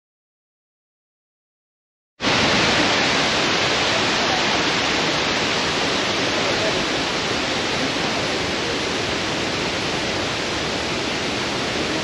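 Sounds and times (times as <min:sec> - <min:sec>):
fast-flowing water rushing: 0:02.2 - 0:12.0.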